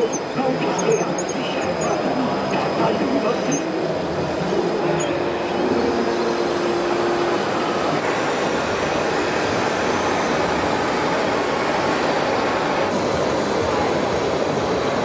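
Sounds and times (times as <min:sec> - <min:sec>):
din of busy hall: 0:00.0 - 0:15.0
model tractors driving: 0:00.0 - 0:15.0
steady hum: 0:00.0 - 0:15.0.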